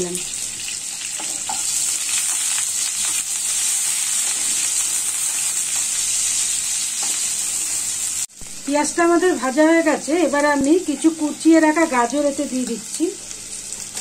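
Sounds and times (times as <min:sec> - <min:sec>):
onions sizzling in hot oil: 0:00.0 - 0:14.0.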